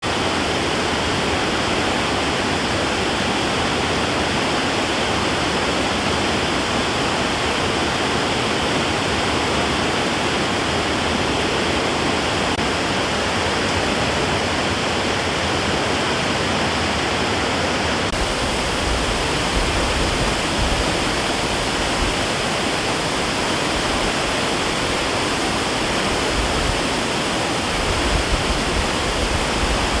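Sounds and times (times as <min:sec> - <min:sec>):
water roaring through spillway: 0:00.1 - 0:30.0.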